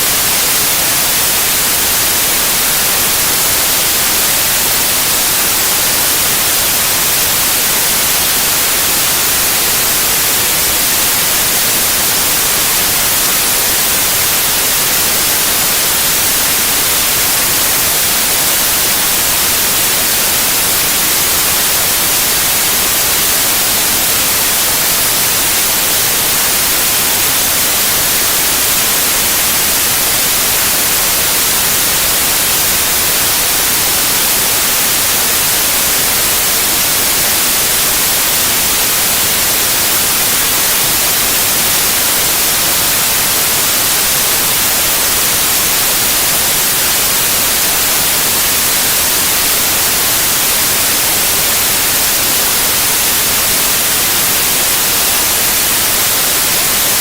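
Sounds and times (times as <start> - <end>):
loud white noise hiss: 0.0 - 57.0.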